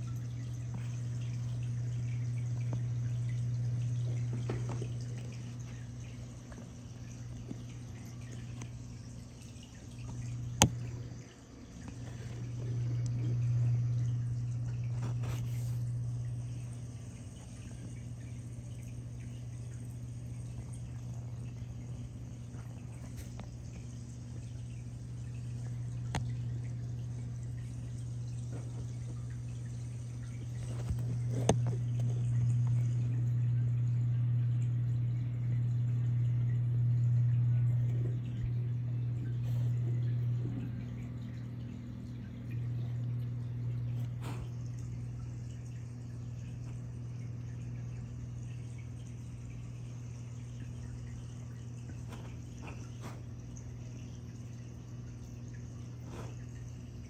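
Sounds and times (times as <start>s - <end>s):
steady low hum: 0.0s - 57.0s
water trickling and dripping: 0.0s - 57.0s.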